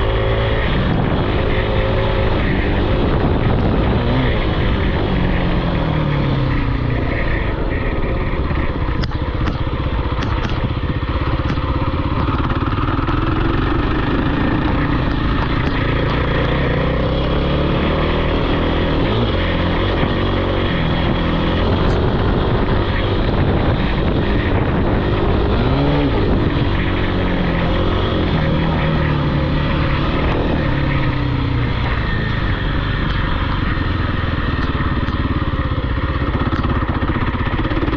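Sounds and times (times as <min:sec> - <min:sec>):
off-road engine revving: 0:00.0 - 0:37.9.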